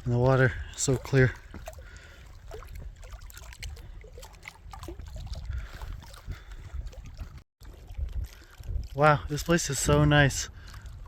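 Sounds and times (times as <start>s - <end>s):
water lapping against rocks: 0.0s - 11.0s.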